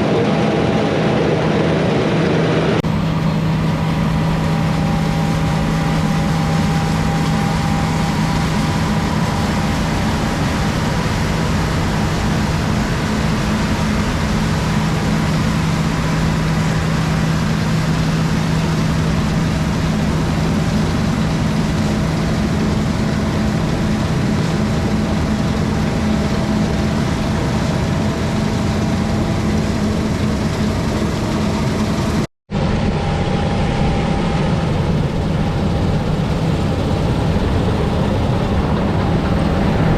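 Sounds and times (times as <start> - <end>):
diesel engine drone: 0.0 - 39.9
machine hum: 0.0 - 39.9.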